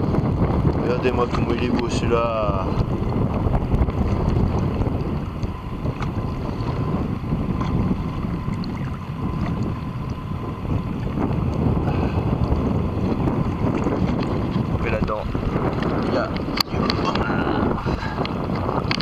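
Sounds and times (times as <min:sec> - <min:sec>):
boat motor rumbling: 0:00.0 - 0:19.0
wind buffeting microphone: 0:00.0 - 0:19.0.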